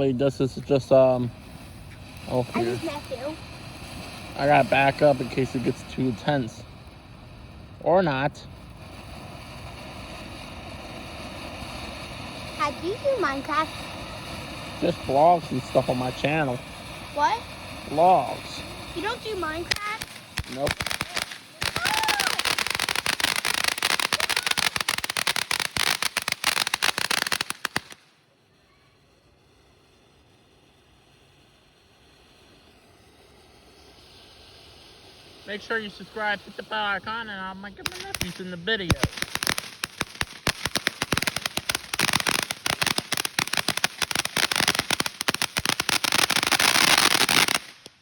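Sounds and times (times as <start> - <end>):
fireworks crackling pops: 0.0 - 48.0.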